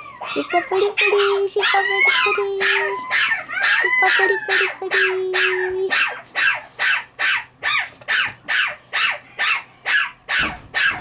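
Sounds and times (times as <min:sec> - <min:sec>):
puppy yapping: 0:00.0 - 0:11.0.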